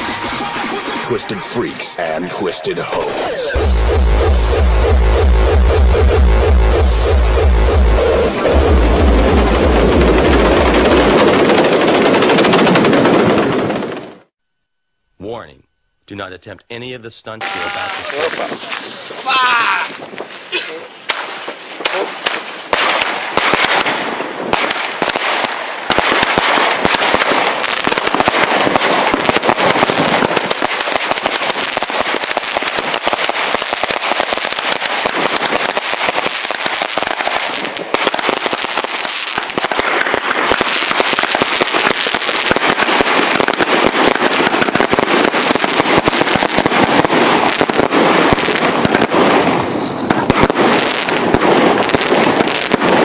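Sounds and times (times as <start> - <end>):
firework bursts crackling: 0.0 - 14.2, 17.4 - 53.0
firework launch shots: 2.4 - 14.1, 17.5 - 53.0.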